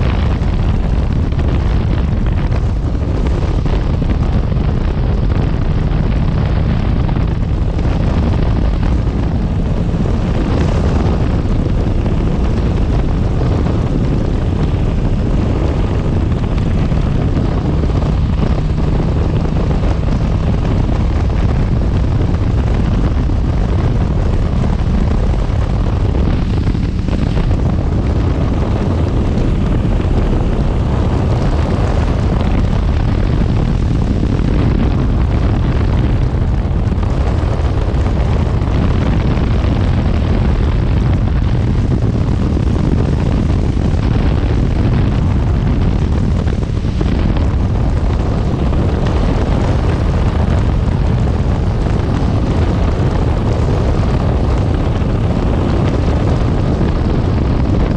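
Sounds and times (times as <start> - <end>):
motorcycle engine running: 0.0 - 57.9
wind rush on microphone: 0.0 - 57.9.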